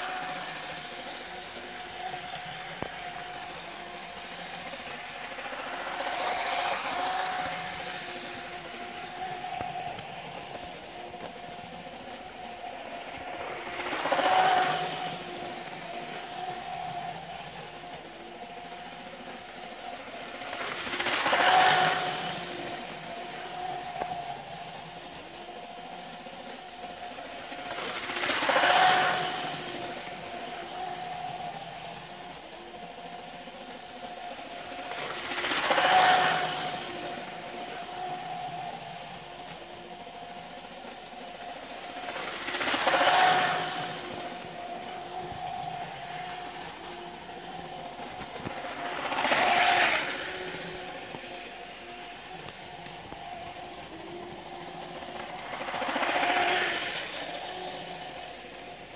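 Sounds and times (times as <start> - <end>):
model train motor whine: 0.0 - 58.9
wheels rattling over track joints: 0.0 - 58.9.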